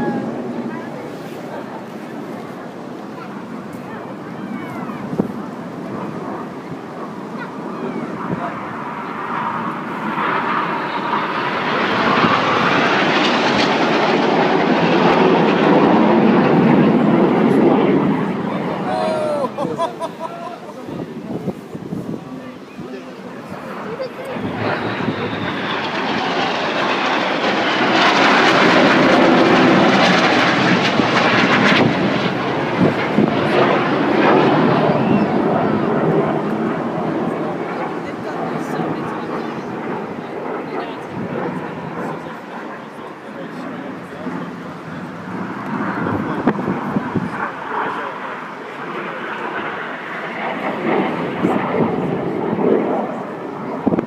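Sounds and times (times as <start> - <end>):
jet aircraft flying low past: 0.0 - 54.0.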